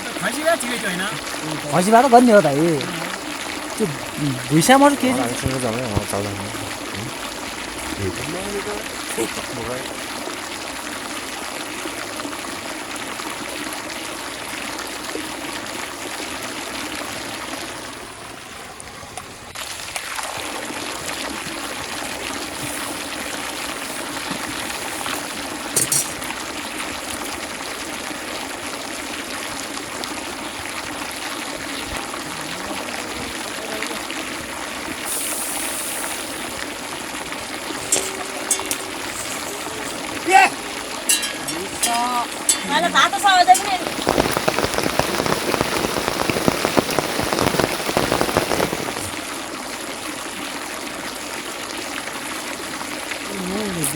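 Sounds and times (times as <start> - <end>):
running water flowing: 0.0 - 53.9.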